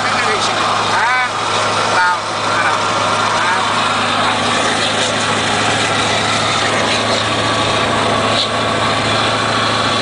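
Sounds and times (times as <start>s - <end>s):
road noise: 0.0s - 10.0s
truck diesel engine running: 0.0s - 10.0s.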